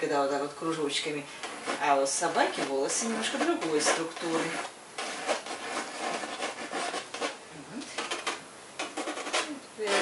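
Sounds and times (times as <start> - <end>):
pencil scratching on paper: 0.6 - 10.0.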